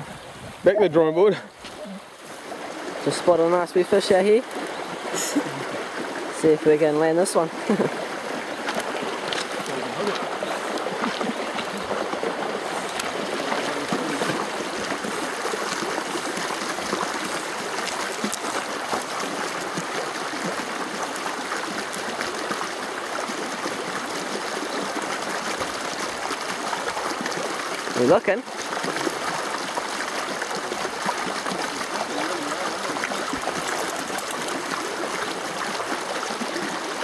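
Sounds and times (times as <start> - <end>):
river running over gravel: 0.0 - 37.0.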